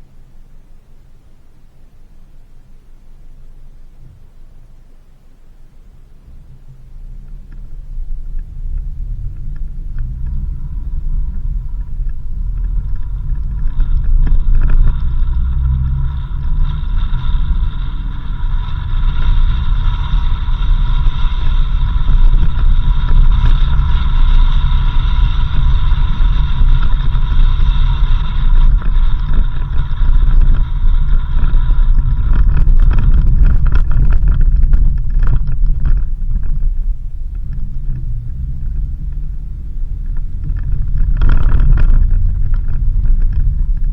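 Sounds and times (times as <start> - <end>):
high whine: 0.0 - 43.9
vehicle engine and tyres rumbling: 0.0 - 43.9.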